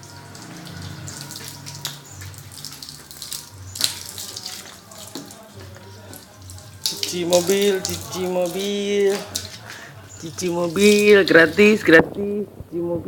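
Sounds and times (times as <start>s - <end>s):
water splashing onto car: 0.0s - 12.0s.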